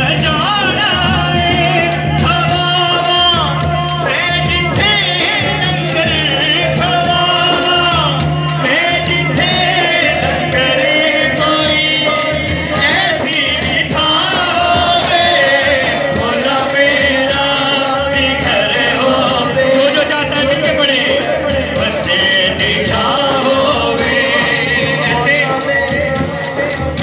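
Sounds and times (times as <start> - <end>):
men singing devotional song: 0.0 - 27.0.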